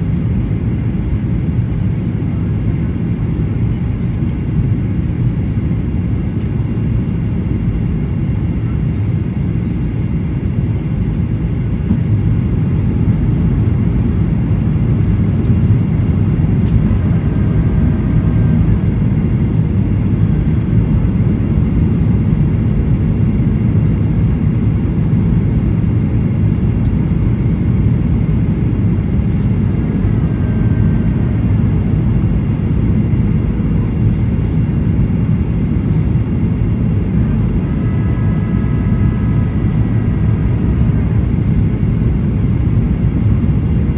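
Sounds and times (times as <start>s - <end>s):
jet engine roar in cabin: 0.0s - 43.9s.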